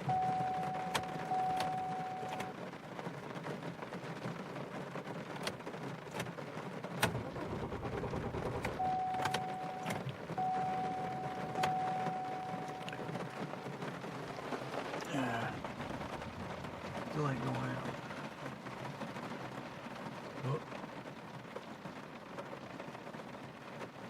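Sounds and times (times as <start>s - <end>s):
rain on a car: 0.0s - 24.0s
raindrop ticks: 0.0s - 24.0s.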